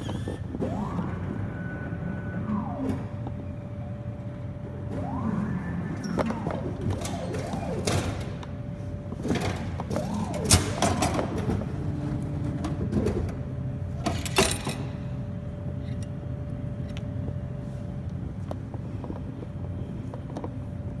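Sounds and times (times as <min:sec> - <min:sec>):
mechanism knocking and whirring: 0:00.0 - 0:17.4
vending machine hum: 0:00.0 - 0:21.0.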